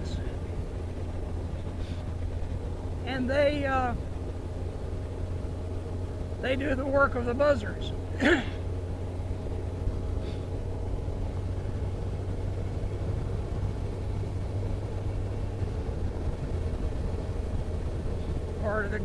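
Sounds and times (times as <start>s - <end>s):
car engine and road noise: 0.0s - 19.0s
faint steady hum: 0.0s - 19.0s.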